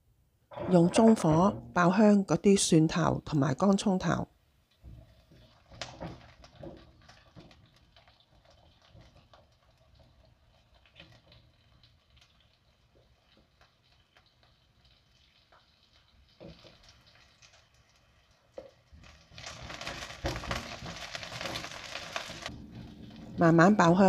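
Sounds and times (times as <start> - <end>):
garlic frying in oil: 4.6 - 24.0.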